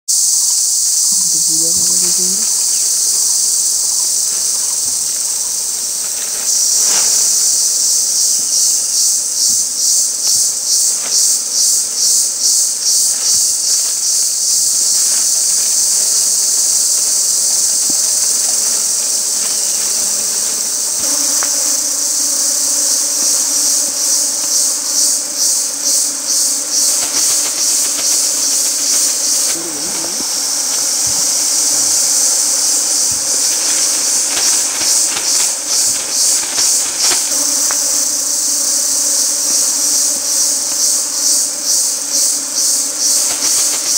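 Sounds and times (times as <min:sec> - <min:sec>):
high-pitched insect chorus: 0:00.1 - 0:43.9.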